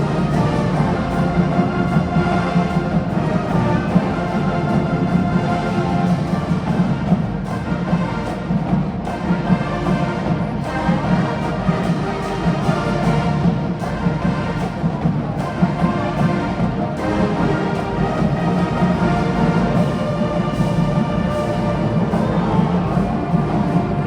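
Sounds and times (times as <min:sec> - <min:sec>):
brass sustained chords: 0:00.0 - 0:24.0
marching drums: 0:00.0 - 0:24.0.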